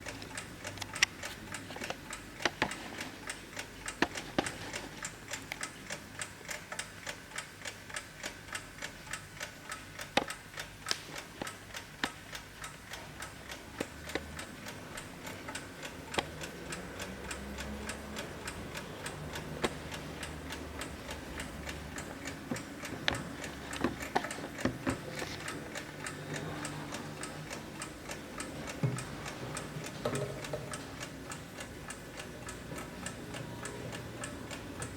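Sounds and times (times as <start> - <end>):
alarm clock ticking: 0.0 - 34.9.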